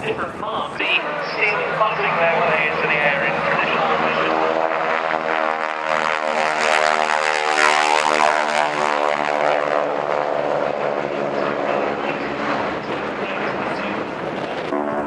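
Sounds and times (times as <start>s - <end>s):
propeller planes droning past: 0.0s - 15.0s.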